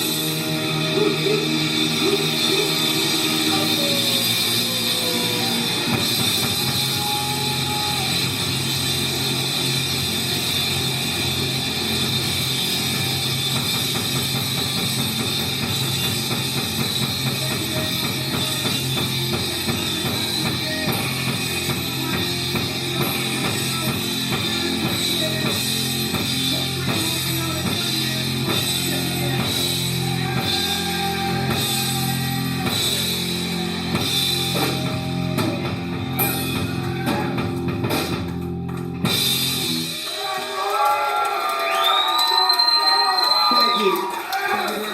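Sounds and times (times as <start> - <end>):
steady low bass line: 0.0 - 39.9
drum kit and cymbals: 0.0 - 40.8
guitar: 0.0 - 44.9
rock band playing: 0.0 - 44.9.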